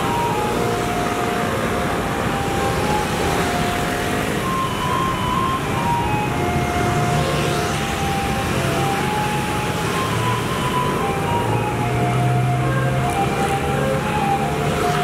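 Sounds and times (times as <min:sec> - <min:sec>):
truck engine: 0:00.0 - 0:15.0.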